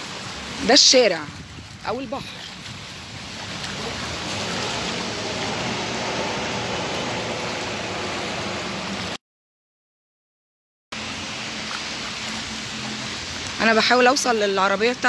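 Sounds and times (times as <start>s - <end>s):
rain and floodwater hissing: 0.0s - 9.2s, 11.0s - 15.0s.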